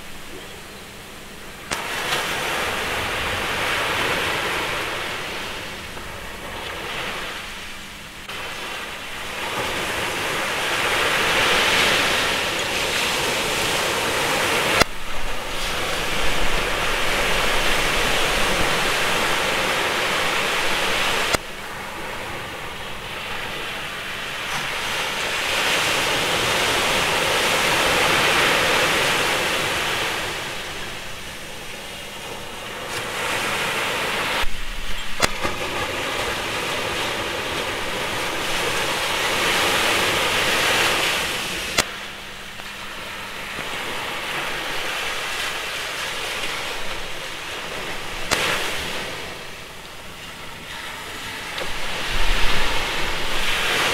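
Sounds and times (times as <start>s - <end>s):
ocean surf waves: 0.0s - 53.9s.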